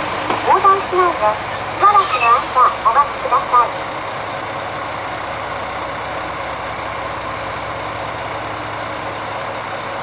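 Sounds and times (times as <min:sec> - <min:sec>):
diesel railcar engine idling: 0:00.0 - 0:10.0.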